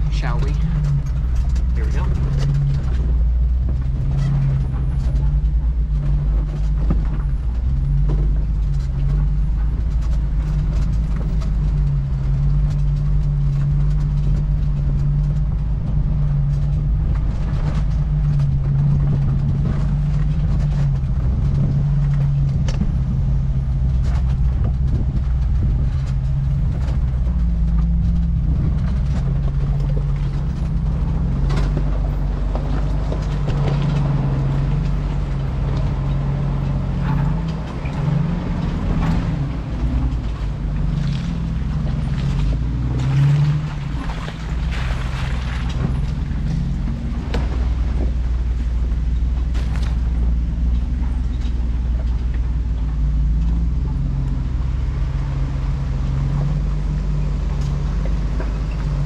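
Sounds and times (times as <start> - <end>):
engine running low: 0.0 - 59.0.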